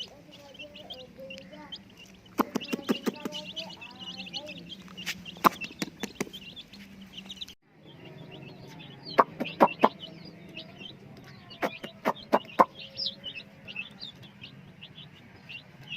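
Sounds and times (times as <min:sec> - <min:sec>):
chicks peeping: 0:00.0 - 0:15.9.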